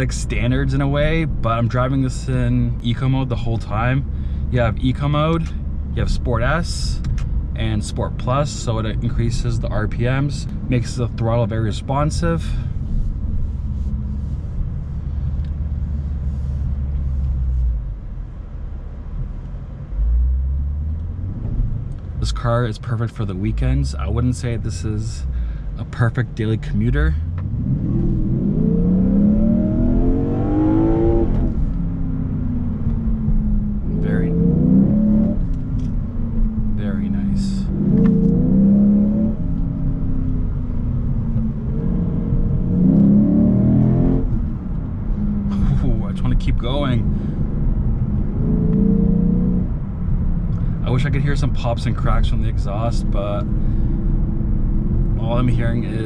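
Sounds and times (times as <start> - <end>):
car engine drone inside cabin: 0.0 - 56.0
road noise: 0.0 - 56.0.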